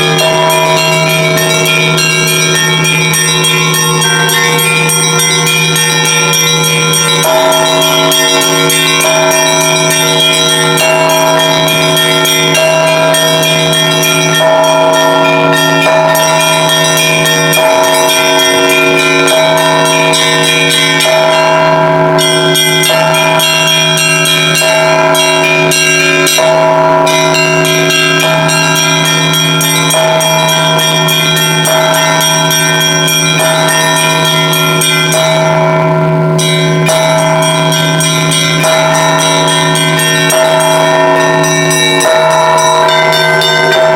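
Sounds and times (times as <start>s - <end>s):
higher bells striking: 0.0s - 43.9s
low bell humming: 0.0s - 43.9s.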